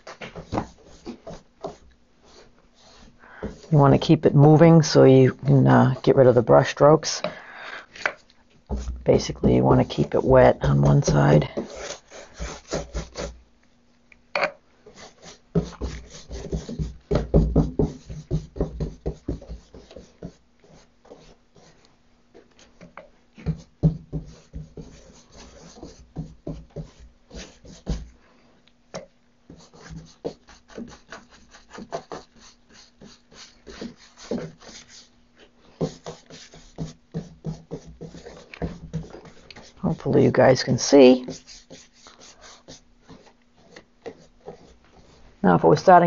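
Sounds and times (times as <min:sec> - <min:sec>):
paintbrush rubbing on wood: 0:00.0 - 0:07.2, 0:08.7 - 0:13.4, 0:14.8 - 0:21.9, 0:23.4 - 0:28.2, 0:29.5 - 0:46.0.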